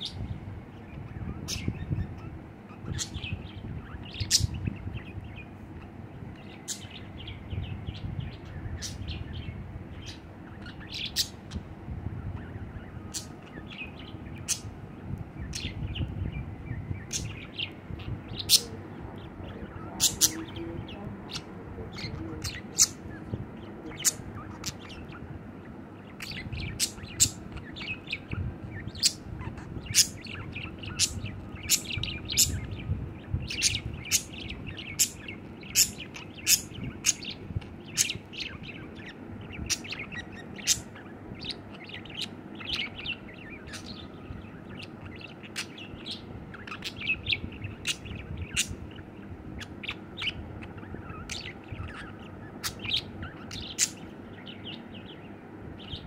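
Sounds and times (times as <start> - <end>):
budgerigar chirping: 1.3 - 5.4, 6.4 - 7.4, 8.3 - 11.7, 12.4 - 14.7, 17.0 - 23.3, 23.9 - 56.0.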